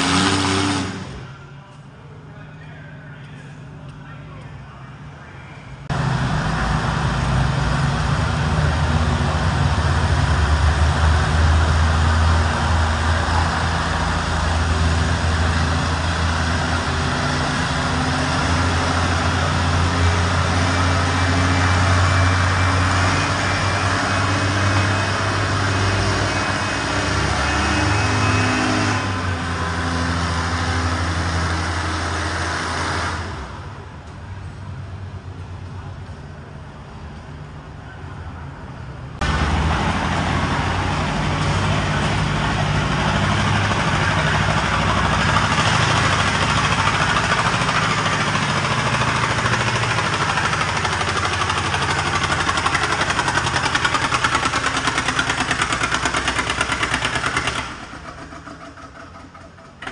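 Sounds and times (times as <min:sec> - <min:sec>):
tractor engine working under load: 0:05.8 - 0:37.2, 0:39.2 - 0:59.9.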